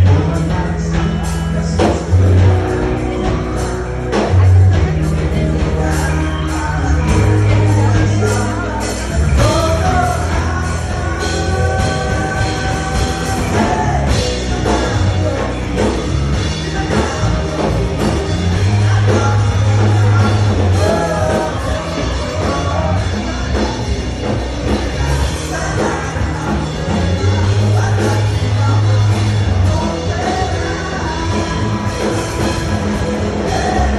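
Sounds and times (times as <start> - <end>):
live rock band playing: 0.0 - 33.9
person singing: 0.0 - 33.9.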